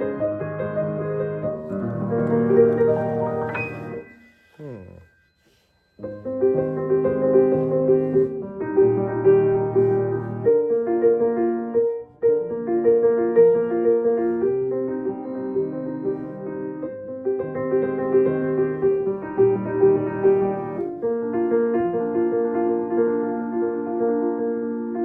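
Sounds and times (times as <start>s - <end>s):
piano playing chords and melody: 0.0s - 4.6s, 6.0s - 25.0s.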